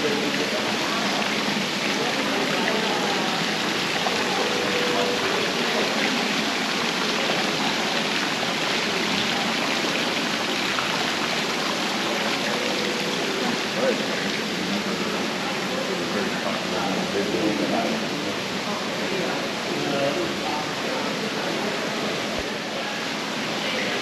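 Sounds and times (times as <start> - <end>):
fountain water splashing into pond: 0.0 - 19.8.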